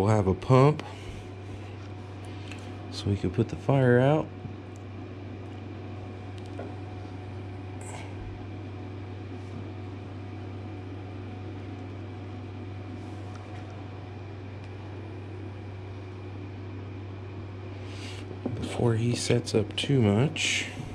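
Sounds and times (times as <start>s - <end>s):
machine humming: 0.0s - 20.9s.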